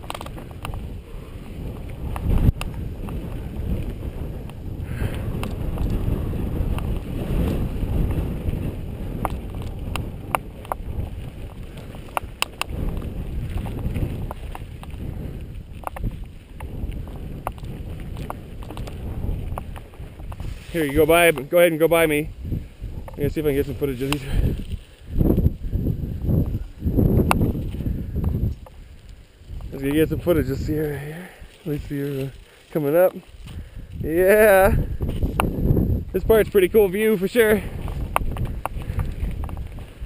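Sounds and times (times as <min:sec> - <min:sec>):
bike clicks and rattles: 0:00.0 - 0:40.0
wind rumbling on microphone: 0:00.0 - 0:40.0.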